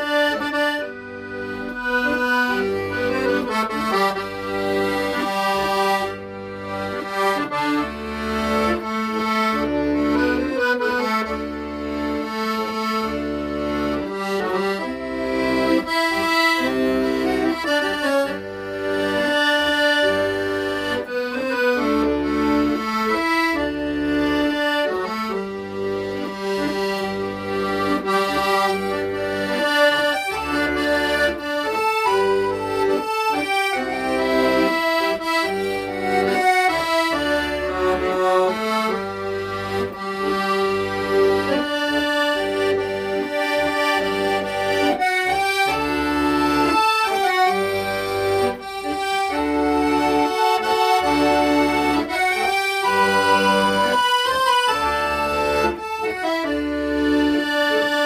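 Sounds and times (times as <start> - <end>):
accordion melody: 0.0 - 58.0.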